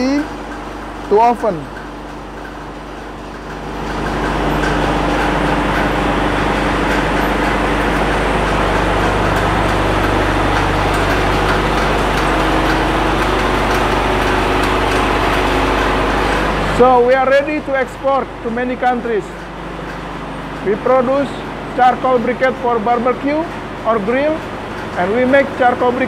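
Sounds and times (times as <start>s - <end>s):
production line machinery droning: 0.0s - 26.0s.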